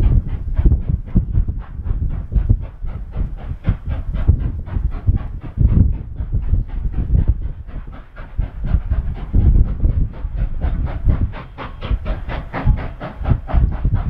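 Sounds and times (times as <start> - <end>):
heavy low thumps: 0.0 - 14.0
steam locomotive exhaust chuffs: 0.0 - 14.0.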